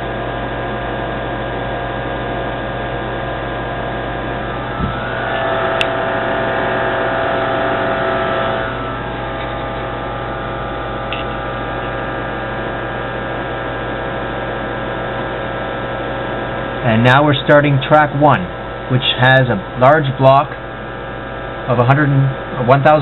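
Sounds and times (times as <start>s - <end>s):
computer electrical hum: 0.0s - 23.0s.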